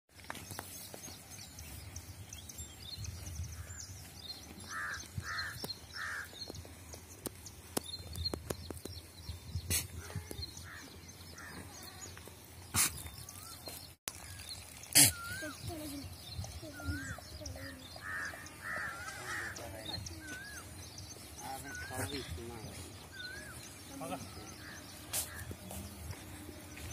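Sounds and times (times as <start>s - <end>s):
birds chirping: 0.2s - 26.9s.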